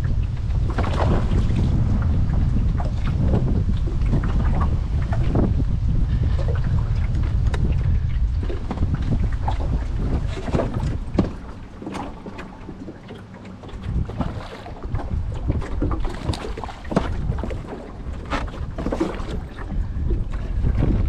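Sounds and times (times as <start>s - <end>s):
low rumble: 0.0s - 18.8s, 19.4s - 21.0s
wind buffeting microphone: 0.0s - 21.0s.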